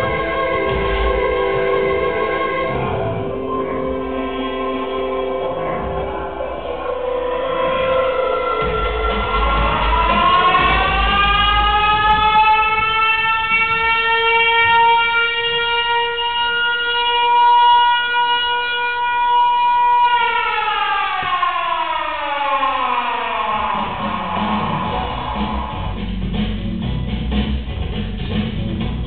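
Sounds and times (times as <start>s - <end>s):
civil defense siren: 0.0s - 26.0s.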